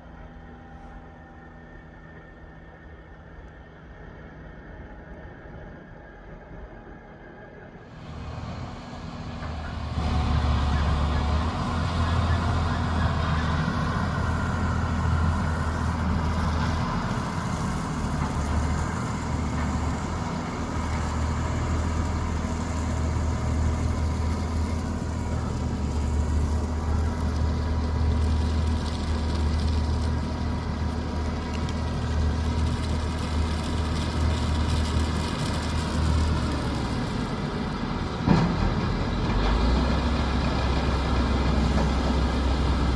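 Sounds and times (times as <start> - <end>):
diesel machinery engine drone: 0.0 - 42.9.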